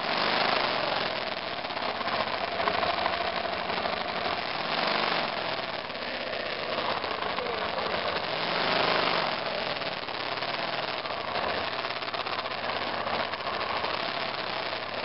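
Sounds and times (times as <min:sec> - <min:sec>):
motorcycle engine at low revs: 0:00.0 - 0:15.0
steady hiss: 0:00.0 - 0:15.0.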